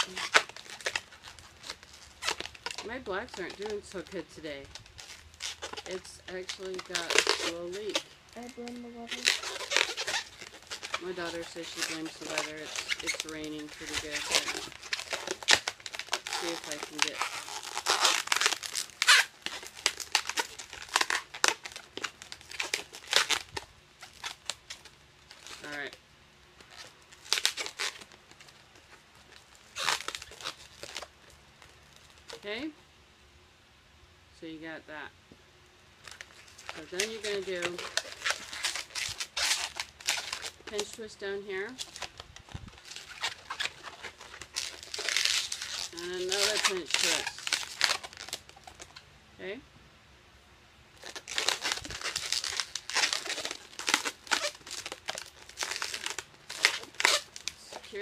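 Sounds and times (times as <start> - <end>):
balloons squeaking: 0.0 - 26.0, 26.6 - 32.7, 36.0 - 49.5, 51.0 - 58.0
small crinkles: 0.0 - 32.7, 36.0 - 49.0, 50.9 - 58.0.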